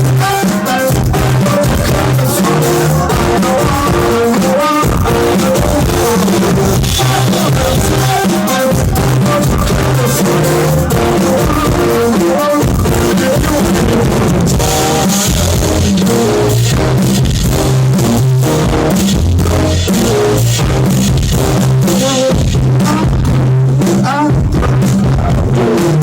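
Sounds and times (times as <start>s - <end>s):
person singing: 0.0s - 17.0s, 21.6s - 26.0s
bass guitar: 0.0s - 26.0s
drums: 0.0s - 26.0s
electric guitar: 0.0s - 26.0s.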